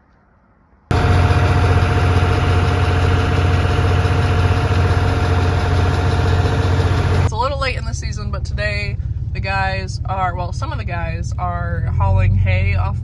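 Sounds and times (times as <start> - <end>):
tractor diesel engine humming: 0.9 - 13.0.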